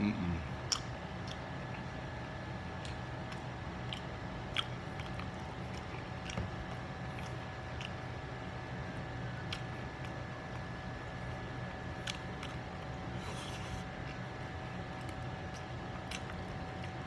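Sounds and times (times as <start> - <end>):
man chewing: 0.6 - 17.0.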